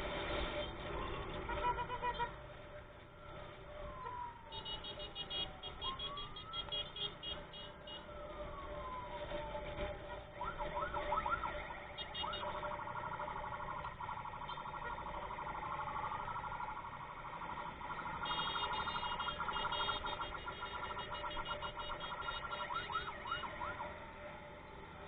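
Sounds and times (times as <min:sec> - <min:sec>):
electronic emergency siren: 0:02.7 - 0:25.0.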